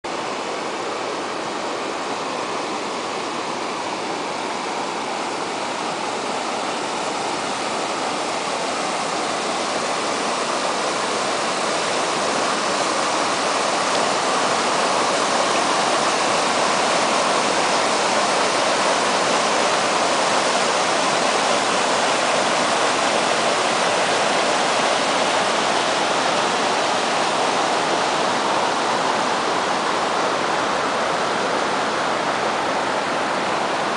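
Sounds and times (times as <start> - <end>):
river rushing over rocks: 0.1 - 33.9.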